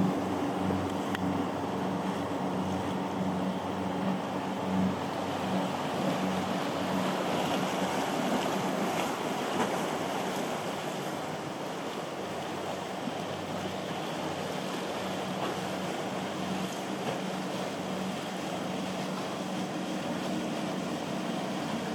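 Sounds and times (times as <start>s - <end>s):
boat engines humming: 0.0s - 21.9s
surf and rushing water: 0.0s - 21.9s.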